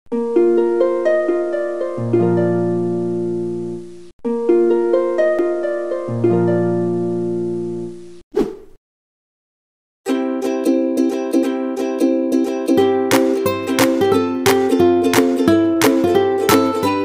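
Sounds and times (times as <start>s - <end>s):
plucked-string arpeggio: 0.1s - 8.0s, 10.1s - 17.0s.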